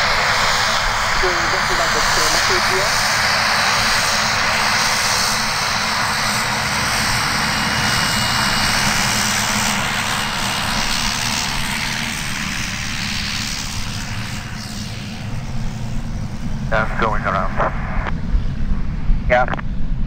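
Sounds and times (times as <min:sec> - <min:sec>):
helicopter engine and rotor noise: 0:00.0 - 0:20.0.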